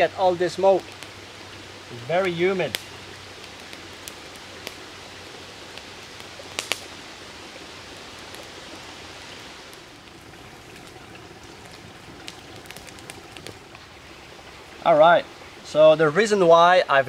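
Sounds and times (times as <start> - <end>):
campfire crackling: 0.0 - 17.0
creek flowing: 0.0 - 17.0
rain hissing: 0.0 - 17.0.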